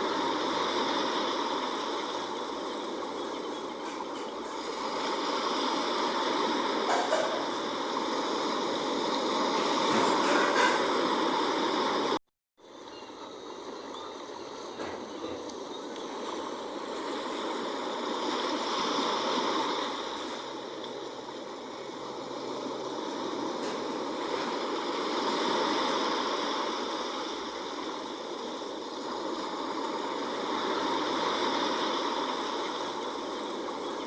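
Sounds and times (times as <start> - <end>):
sea waves washing: 0.0 - 34.0.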